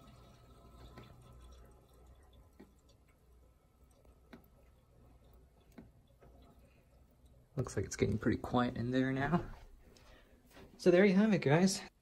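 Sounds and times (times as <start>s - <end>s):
refrigerant trickling and gurgling: 0.0s - 12.0s.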